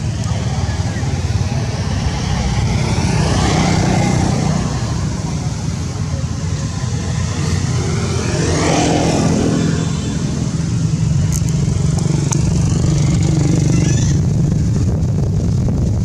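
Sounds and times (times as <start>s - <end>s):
vehicle passing: 0.0s - 15.2s
engine droning: 0.0s - 16.0s.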